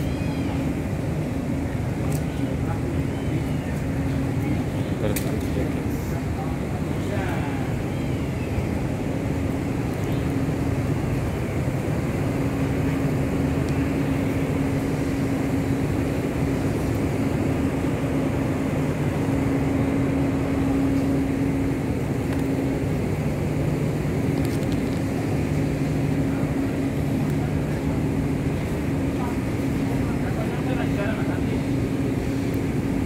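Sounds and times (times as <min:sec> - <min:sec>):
machinery droning: 0:00.0 - 0:33.0.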